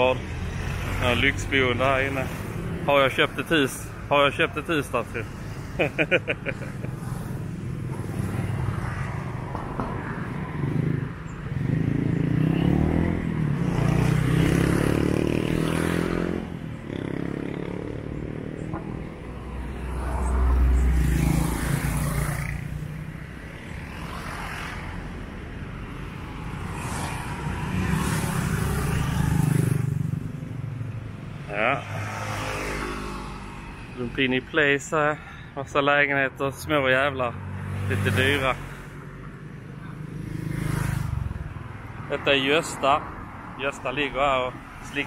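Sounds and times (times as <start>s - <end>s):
scooters and cars passing: 0.0s - 45.0s.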